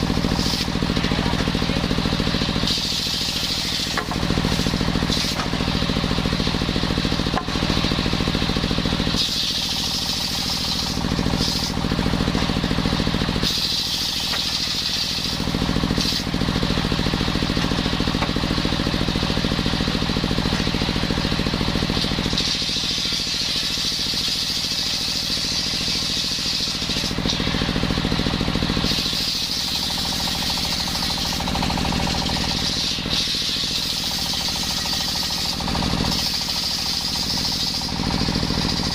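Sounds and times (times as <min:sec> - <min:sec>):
saw blade cutting wood: 0:00.0 - 0:19.0, 0:19.6 - 0:38.9
circular sawmill drive hum: 0:00.0 - 0:38.9.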